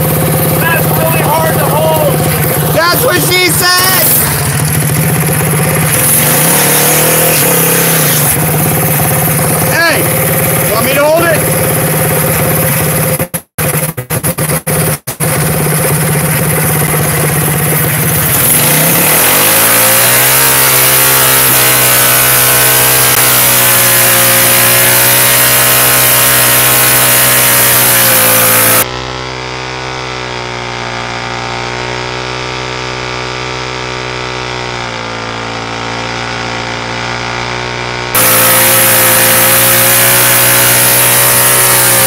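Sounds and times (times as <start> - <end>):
small engine revving high: 0.0 - 42.0.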